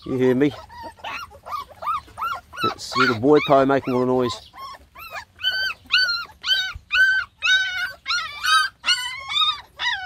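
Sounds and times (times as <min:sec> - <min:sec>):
puppy whining: 0:00.0 - 0:10.0.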